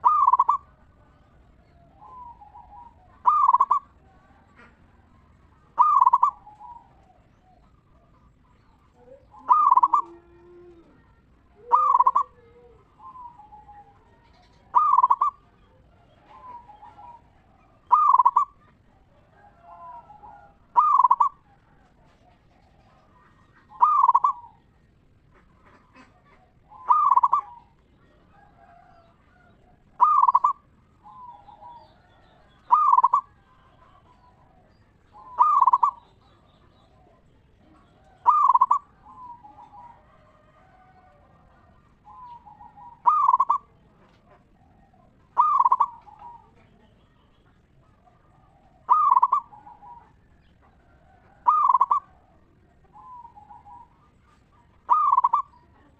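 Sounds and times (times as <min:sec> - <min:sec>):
dove cooing: 0:00.0 - 0:55.9
faint bird calls: 0:00.0 - 0:55.9.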